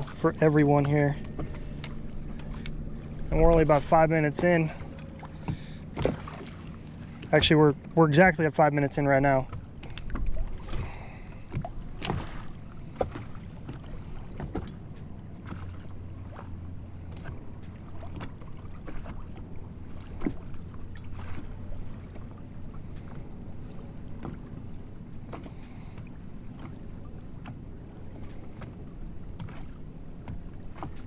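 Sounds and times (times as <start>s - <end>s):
steady low hum: 0.0s - 31.0s
water lapping: 0.0s - 31.0s.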